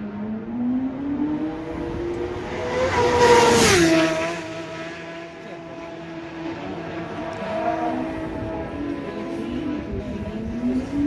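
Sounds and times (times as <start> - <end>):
racing motorcycle passing by: 0.0 - 11.0.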